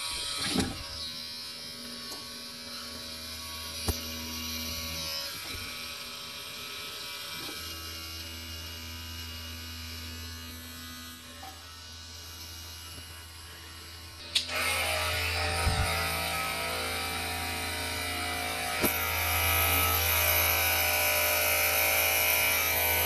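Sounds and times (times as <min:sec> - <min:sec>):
electric trimmer buzzing: 0:00.0 - 0:23.0.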